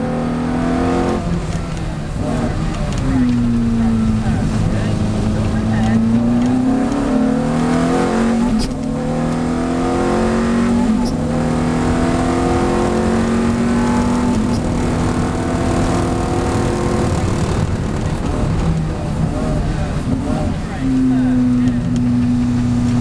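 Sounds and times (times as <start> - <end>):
car engine at full throttle: 0.0 - 23.0
gear upshifts: 0.8 - 23.0.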